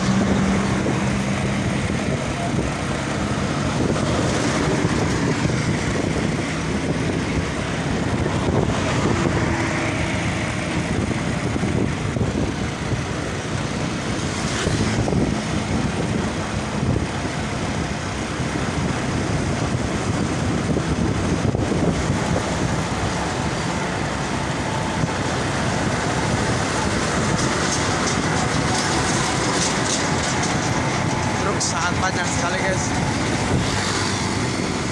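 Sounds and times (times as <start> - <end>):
heavy road traffic: 0.0 - 34.9.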